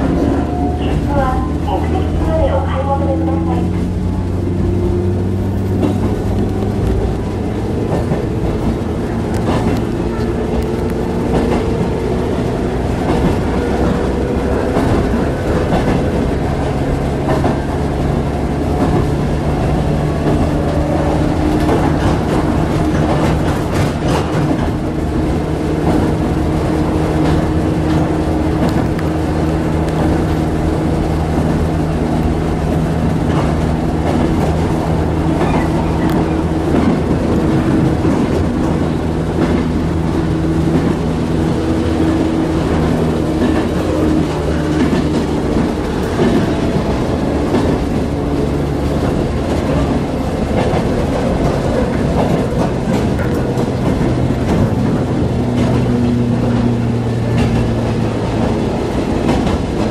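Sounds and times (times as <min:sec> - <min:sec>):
train interior rumble and hum: 0:00.0 - 0:59.9
wheels clacking over rail joints: 0:00.0 - 0:59.9.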